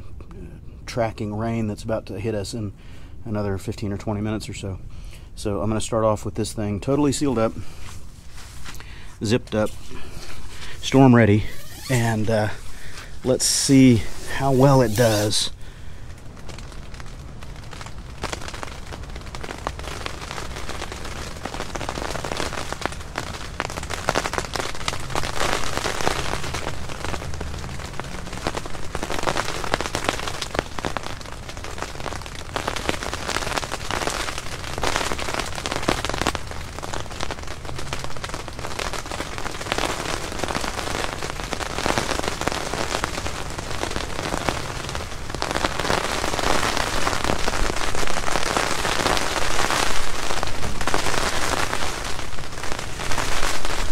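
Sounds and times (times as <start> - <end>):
rain pattering on tent: 0.0 - 53.9.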